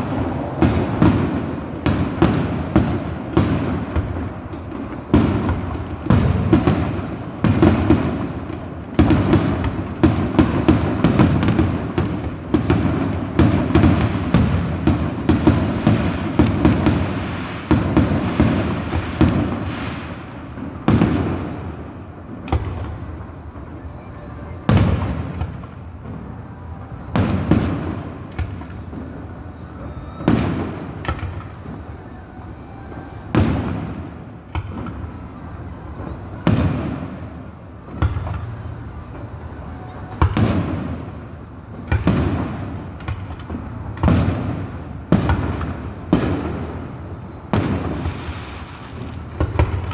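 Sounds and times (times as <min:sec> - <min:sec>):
distant fireworks booming: 0:00.0 - 0:49.9.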